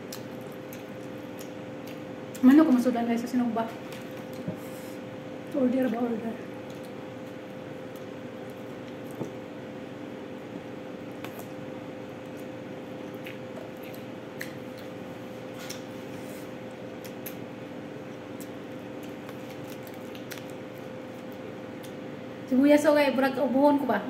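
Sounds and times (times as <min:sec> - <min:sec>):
appliance humming: 0:00.0 - 0:24.0.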